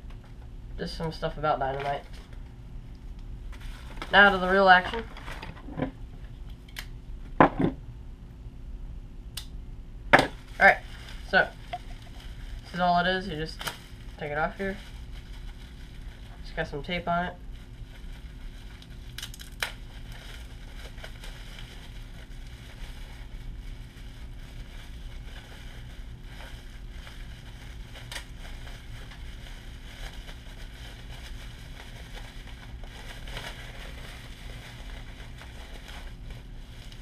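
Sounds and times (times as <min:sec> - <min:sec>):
wrapping crinkling and rustling: 0:00.0 - 0:05.8, 0:10.3 - 0:37.0
steady low hum: 0:00.0 - 0:37.0.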